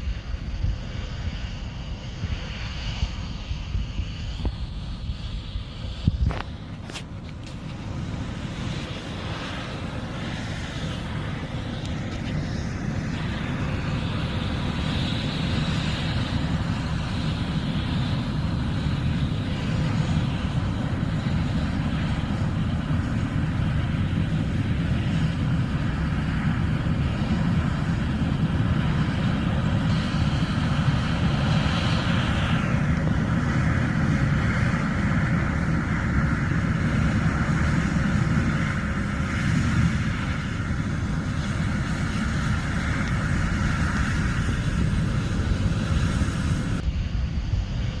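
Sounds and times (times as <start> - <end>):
combine harvester engine drone: 0.0 - 48.0
high machinery whine: 0.0 - 48.0.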